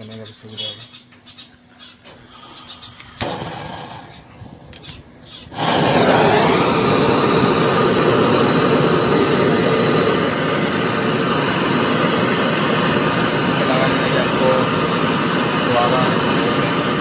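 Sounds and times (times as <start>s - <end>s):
gas torch flame hissing: 2.0s - 4.9s, 5.5s - 17.0s.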